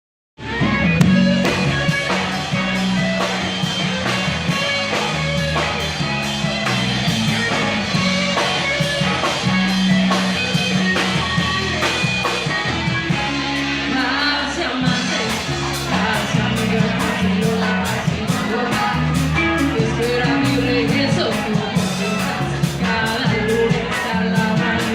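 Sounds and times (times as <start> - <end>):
bass: 0.4 - 24.9
guitar: 0.4 - 24.9
drum kit beat: 0.7 - 14.1, 14.8 - 24.9.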